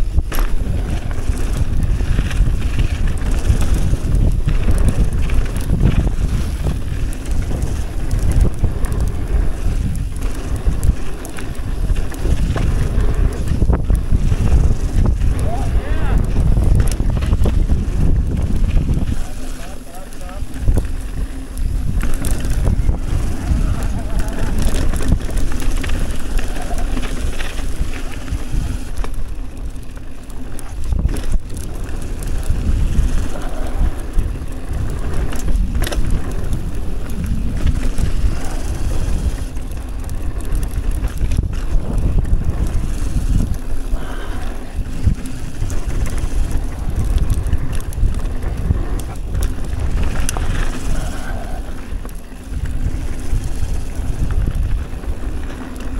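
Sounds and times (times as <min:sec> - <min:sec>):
bike tyres rumbling on dirt: 0:00.0 - 0:55.9
wind buffeting microphone: 0:00.0 - 0:55.9.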